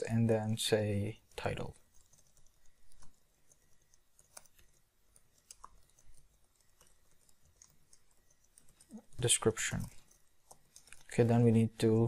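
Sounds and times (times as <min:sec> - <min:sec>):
keyboard typing: 0:00.2 - 0:11.7.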